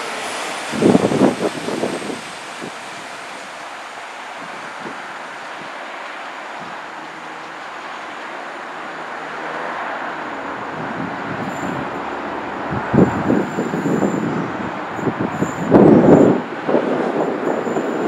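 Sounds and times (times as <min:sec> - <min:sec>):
diesel train engine and wheels: 0:00.0 - 0:18.0
faint high whine: 0:00.0 - 0:18.0.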